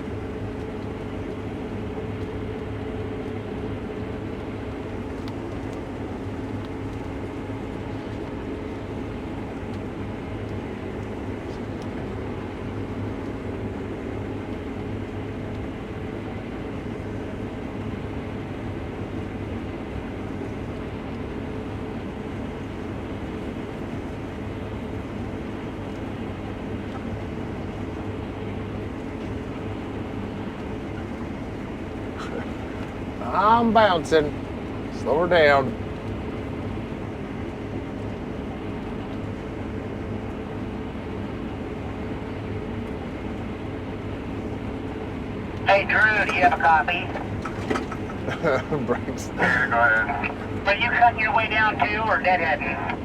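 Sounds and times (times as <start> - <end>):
combine engine and machinery drone: 0.0 - 53.0
steady hum tones: 0.0 - 53.0.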